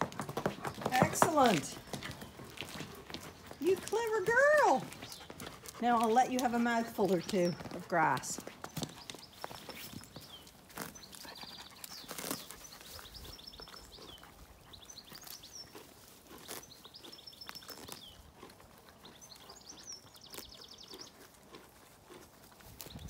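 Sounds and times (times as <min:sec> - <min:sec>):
pony tearing and chewing grass: 0:00.0 - 0:23.0.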